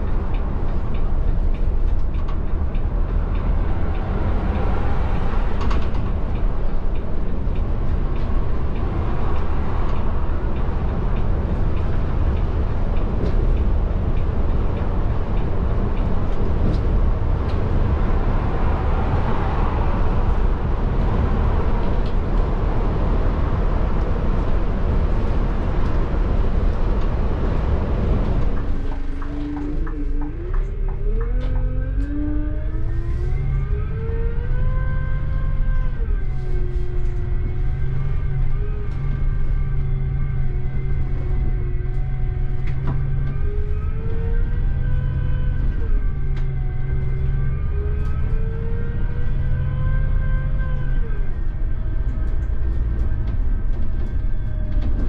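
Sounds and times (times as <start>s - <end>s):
coach interior road rumble: 0.0s - 55.0s
wind noise: 0.0s - 55.0s.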